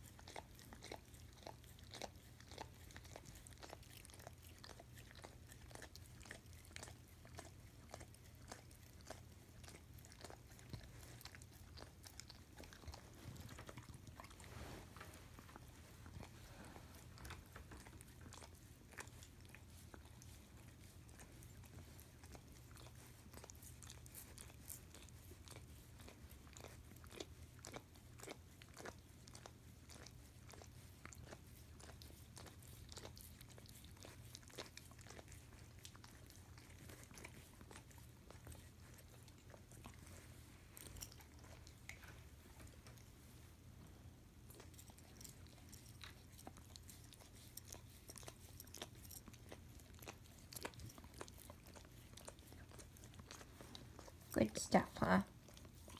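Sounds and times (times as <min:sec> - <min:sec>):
dog licking and smacking: 0:00.0 - 0:55.9
low steady hum: 0:00.0 - 0:55.9.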